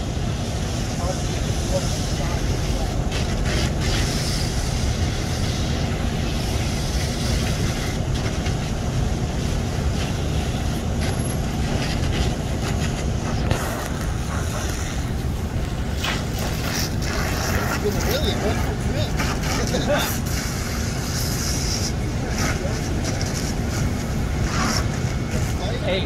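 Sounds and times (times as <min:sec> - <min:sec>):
fire engine rumbling: 0:00.0 - 0:26.0
steady hiss: 0:00.0 - 0:26.0.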